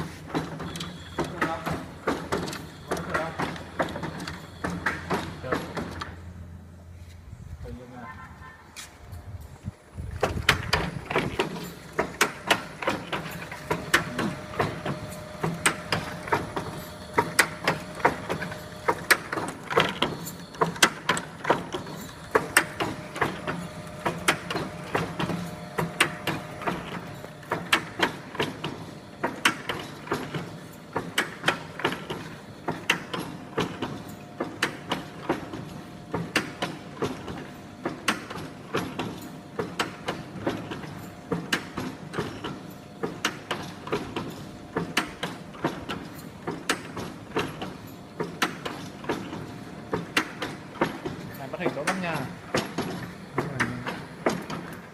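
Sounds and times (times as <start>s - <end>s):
packaging machine clacking: 0.0s - 6.2s, 10.4s - 54.9s
constant motor hum: 0.0s - 54.9s.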